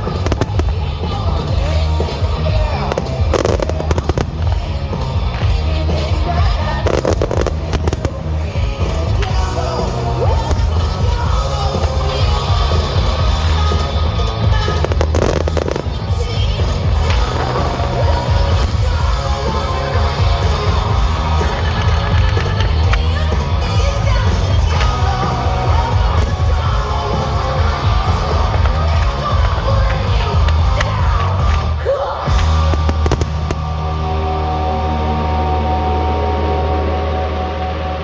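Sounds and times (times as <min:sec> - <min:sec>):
fireworks banging: 0:00.0 - 0:23.6, 0:24.3 - 0:34.0
loud music with heavy bass: 0:00.0 - 0:38.0.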